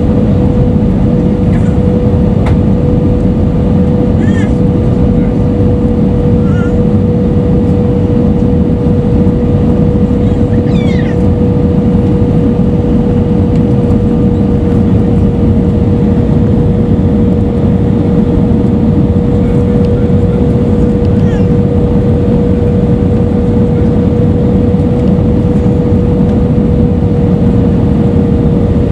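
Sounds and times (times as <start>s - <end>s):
aircraft cabin engine roar: 0.0s - 28.9s
constant hum-like tone: 0.0s - 28.9s.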